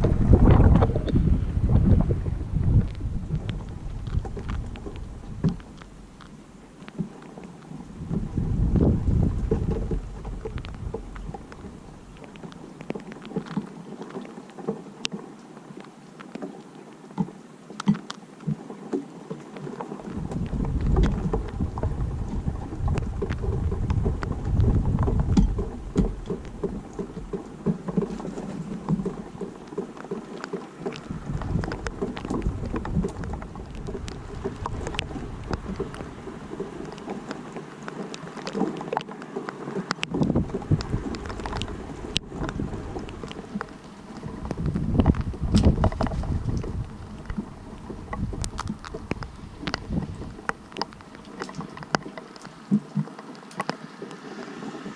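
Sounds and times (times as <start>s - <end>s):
wind rumbling on microphone: 0.0s - 16.0s, 18.5s - 54.9s
rain falling: 0.0s - 54.9s.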